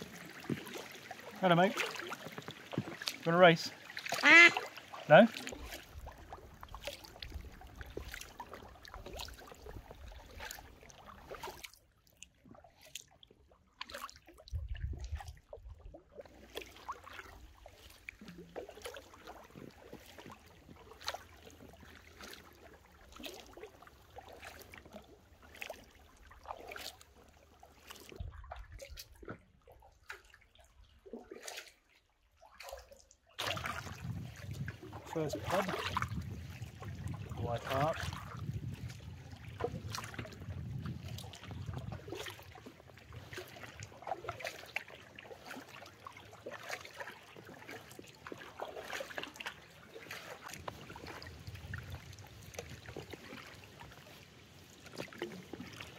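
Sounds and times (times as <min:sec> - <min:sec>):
paddle splashing water: 0:00.0 - 0:55.9.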